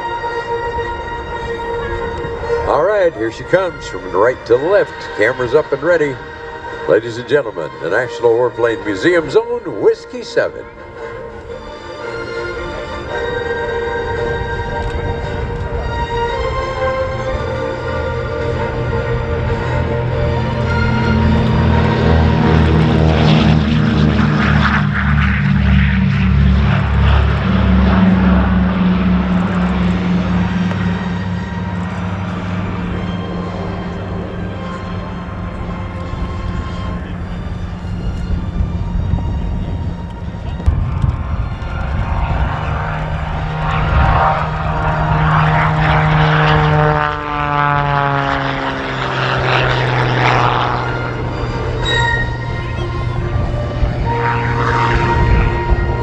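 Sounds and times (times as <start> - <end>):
propeller plane taking off: 0.0 - 56.0.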